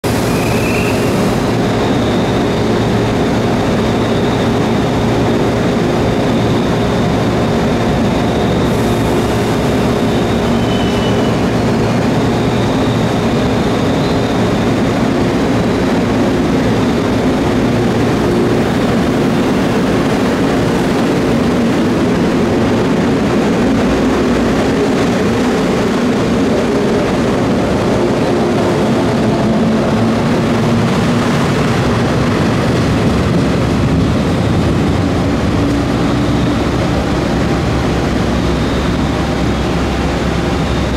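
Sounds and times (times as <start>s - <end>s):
electric train running: 0.0s - 40.9s.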